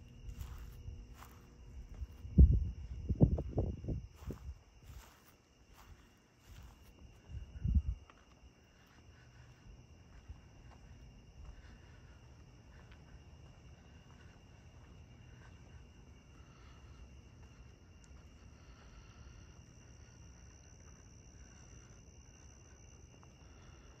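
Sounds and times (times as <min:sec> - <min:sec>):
crickets trilling: 0:00.0 - 0:24.0
faint low rumble: 0:00.0 - 0:24.0.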